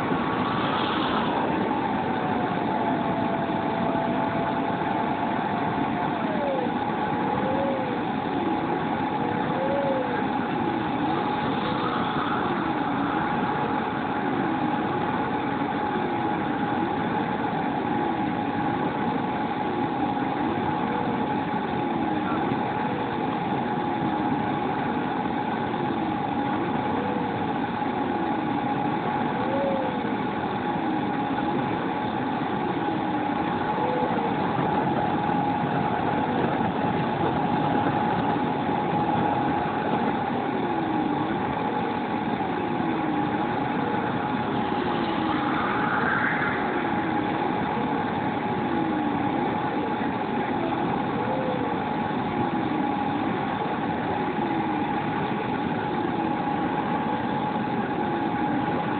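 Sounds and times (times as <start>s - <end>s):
model jet turbine idling: 0.0s - 58.9s.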